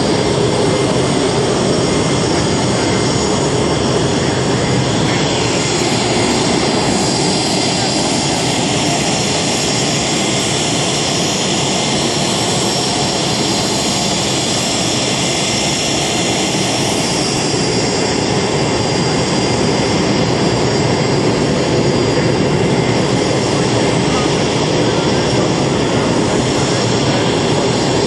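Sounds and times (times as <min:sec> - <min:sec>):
aircraft turbine engine running: 0:00.0 - 0:28.0
high engine whine: 0:00.0 - 0:28.0.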